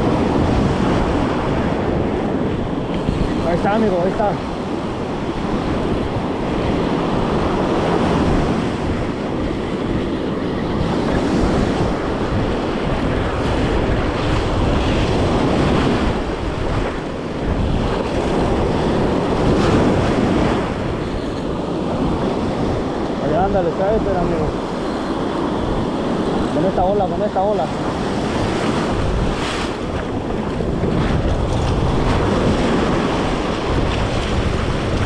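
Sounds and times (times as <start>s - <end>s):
ocean surf breaking: 0.0s - 35.0s
wind buffeting microphone: 0.0s - 35.0s.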